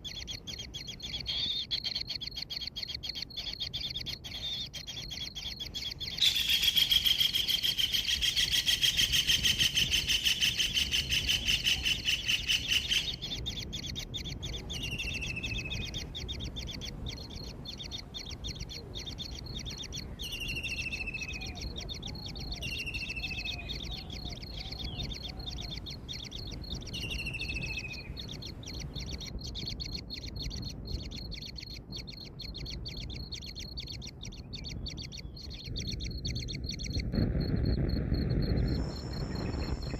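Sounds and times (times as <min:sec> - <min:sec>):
bird chattering trill: 0:00.0 - 0:37.7.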